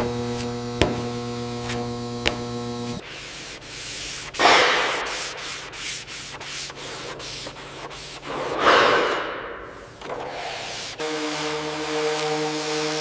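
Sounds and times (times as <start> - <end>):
abrasive sanding strokes: 0.0 - 8.6, 10.3 - 13.0.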